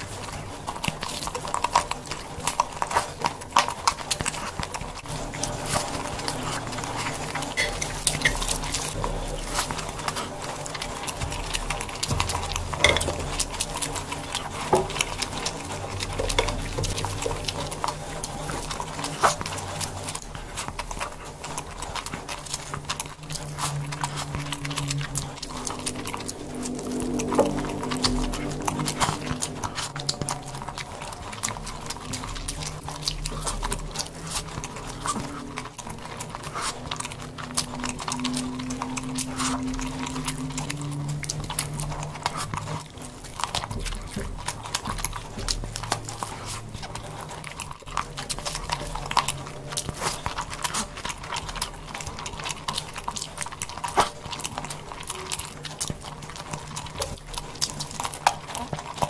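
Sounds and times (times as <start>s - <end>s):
low hum: 0.0s - 59.0s
person chewing and lip smacking: 0.0s - 59.0s.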